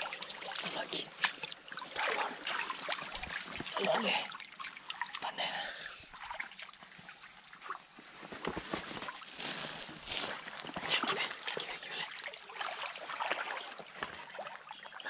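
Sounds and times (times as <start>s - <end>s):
feet splashing through water: 0.0s - 8.0s, 8.7s - 15.0s
stream trickling: 0.0s - 15.0s.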